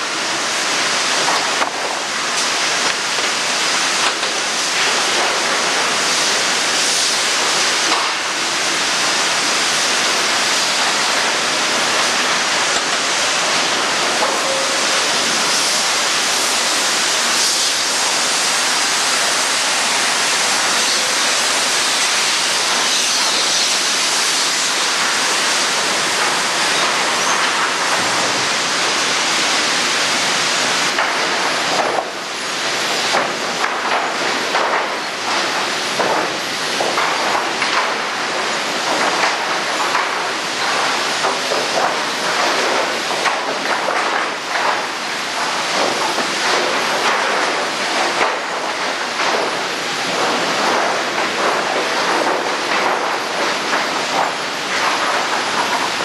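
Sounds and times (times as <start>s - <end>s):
sawmill machinery din: 0.0s - 56.0s.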